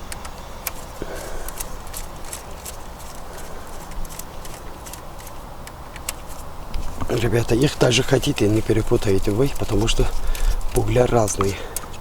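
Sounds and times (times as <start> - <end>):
wrench clicking on bolts: 0.0 - 6.5, 7.1 - 12.0.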